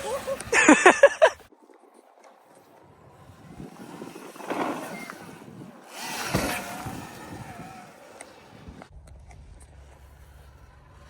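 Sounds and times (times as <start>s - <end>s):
electric dirt bike riding: 0.0s - 11.0s
faint motor whine: 0.0s - 11.0s.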